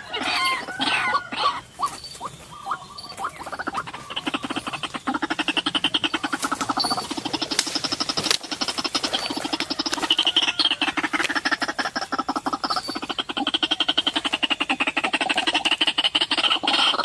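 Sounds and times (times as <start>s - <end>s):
waterhen squeaky gliding calls: 0.0s - 17.0s
waterhen stuttering croaking calls: 0.0s - 17.0s.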